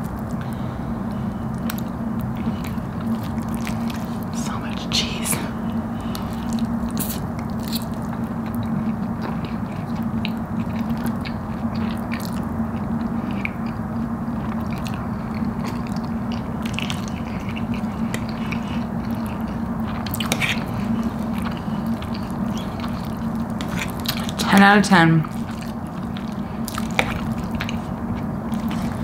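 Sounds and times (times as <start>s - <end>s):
person chewing food: 0.0s - 4.7s, 5.5s - 24.4s, 25.2s - 29.0s
low steady hum: 0.0s - 29.0s.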